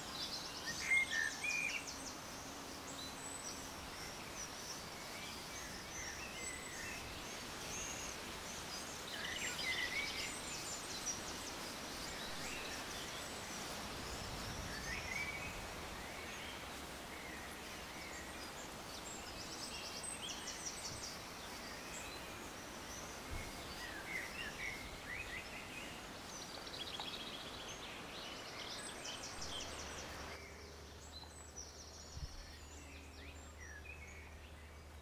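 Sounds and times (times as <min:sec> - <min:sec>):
small birds singing: 0:00.0 - 0:35.0
steady background hiss: 0:00.0 - 0:35.0.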